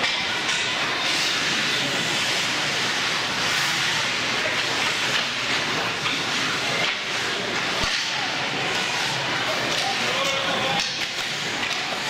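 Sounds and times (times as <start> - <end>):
ice hockey rink hissing ambience: 0.0 - 12.0.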